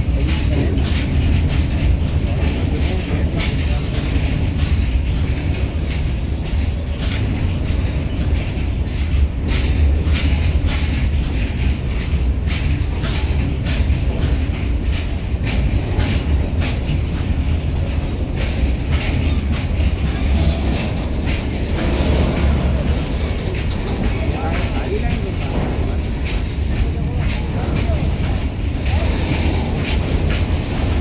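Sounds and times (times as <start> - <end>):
train rumbling past: 0.0 - 31.0
wheels clacking over rail joints: 0.0 - 31.0.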